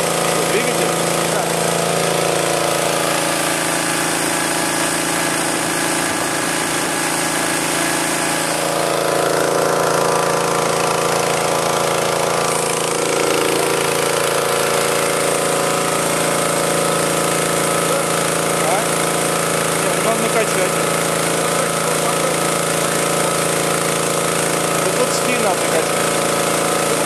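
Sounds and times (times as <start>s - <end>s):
engine-driven air compressor chugging: 0.0s - 27.0s.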